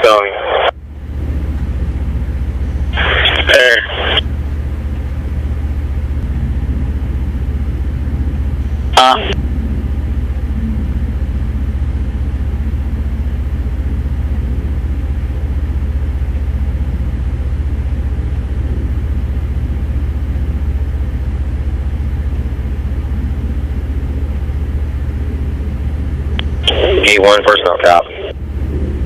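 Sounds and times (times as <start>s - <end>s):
low engine drone: 0.0s - 29.0s.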